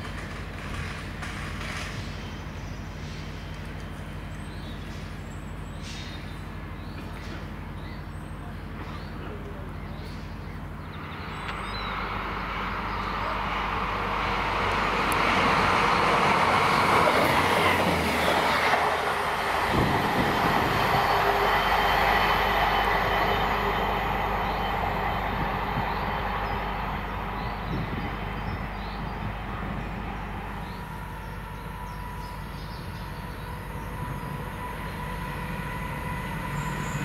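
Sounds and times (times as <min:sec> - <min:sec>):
diesel train engine: 0:00.0 - 0:37.0
train wheels on rail: 0:00.0 - 0:37.0.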